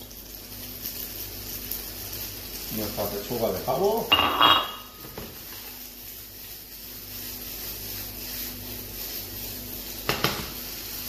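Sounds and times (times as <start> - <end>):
food hissing in a frying pan: 0.0 - 11.0.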